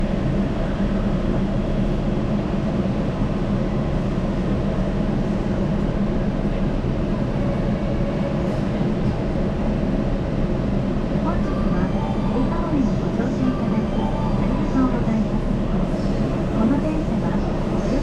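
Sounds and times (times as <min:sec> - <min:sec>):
train hum and rumble: 0:00.0 - 0:18.0.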